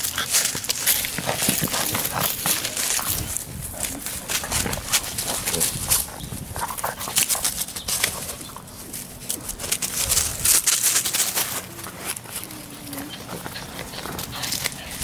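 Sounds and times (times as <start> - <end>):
puppies scampering over dry leaves: 0.0 - 15.0.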